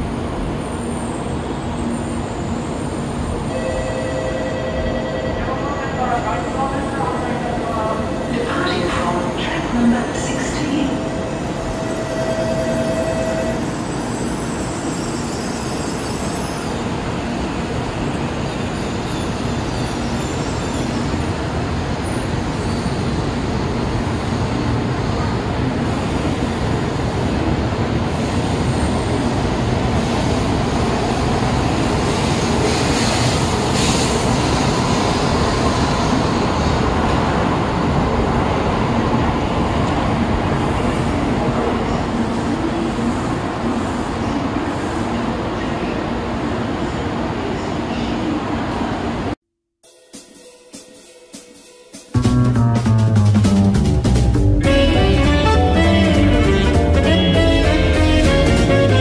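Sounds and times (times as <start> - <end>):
train rumble and rush: 0.0 - 49.4, 52.1 - 59.0.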